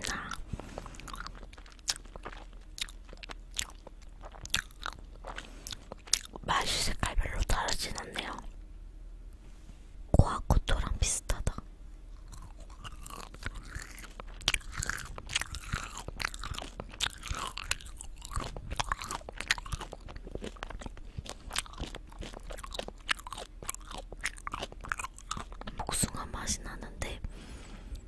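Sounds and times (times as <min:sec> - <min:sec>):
wet chewing of gummy candy: 0:00.0 - 0:08.5, 0:12.1 - 0:26.2.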